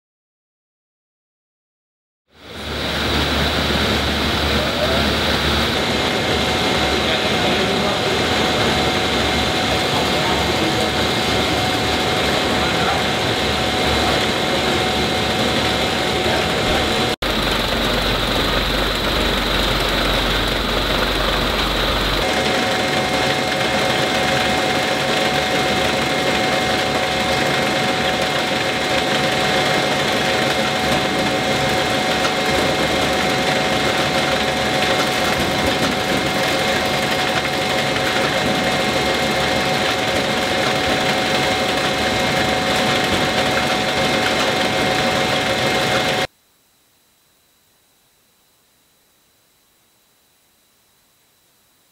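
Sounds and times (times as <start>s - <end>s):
conveyor mechanical whir: 2.4s - 46.3s
motor whine: 2.4s - 46.3s.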